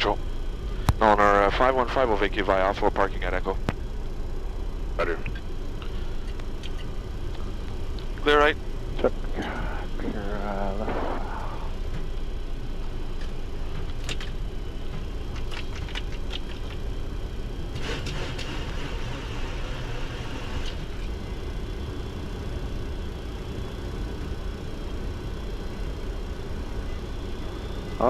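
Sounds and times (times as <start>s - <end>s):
jet engines idling low rumble: 0.0s - 28.0s.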